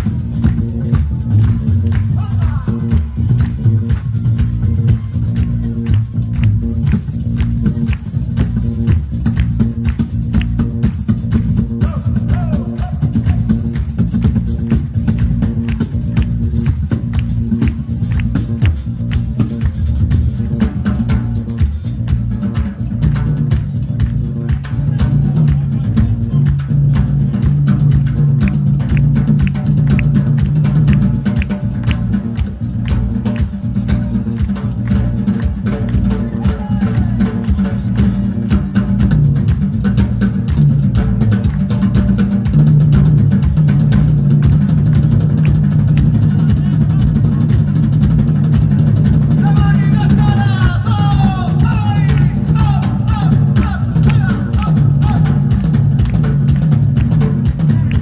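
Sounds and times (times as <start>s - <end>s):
bass line: 0.0s - 58.0s
drum kit beat: 0.0s - 58.0s
folk band playing dance tune: 0.0s - 58.0s.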